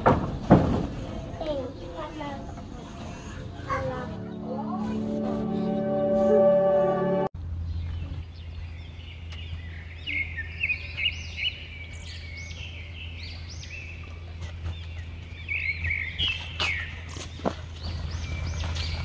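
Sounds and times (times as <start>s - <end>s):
steady low hum: 0.3s - 19.0s
birds chirping: 1.1s - 7.0s, 7.6s - 19.0s.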